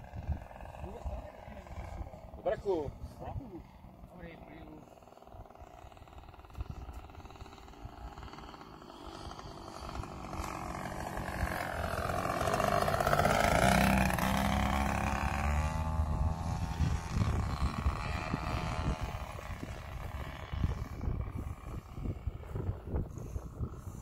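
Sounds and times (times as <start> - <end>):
wind buffeting microphone: 0.0 - 3.9, 5.2 - 24.0
model aeroplane engine flying past: 0.0 - 24.0.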